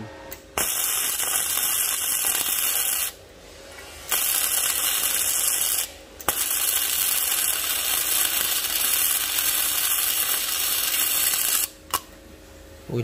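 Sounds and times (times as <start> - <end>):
welding arc crackling and hissing: 0.4 - 11.8.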